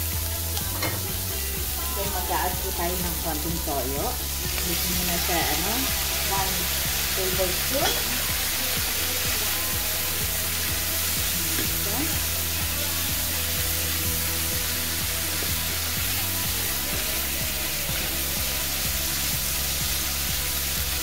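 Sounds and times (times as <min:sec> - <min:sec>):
soft background music: 0:00.0 - 0:21.0
vegetables sizzling in a frying pan: 0:00.0 - 0:21.0.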